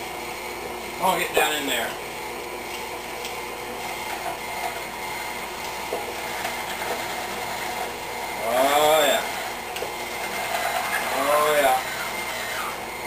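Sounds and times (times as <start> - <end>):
stand mixer motor grinding: 0.0 - 13.0.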